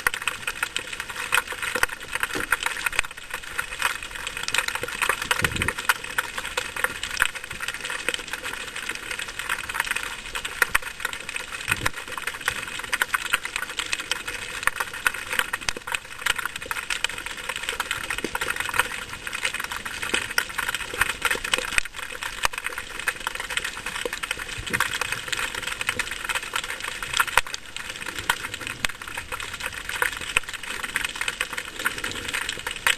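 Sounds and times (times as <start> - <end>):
underwater crackle of clicks: 0.0 - 32.9.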